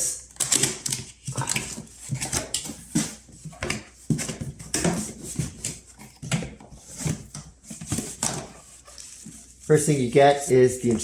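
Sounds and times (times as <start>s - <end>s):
cardboard and packaging rustling: 0.3s - 11.0s.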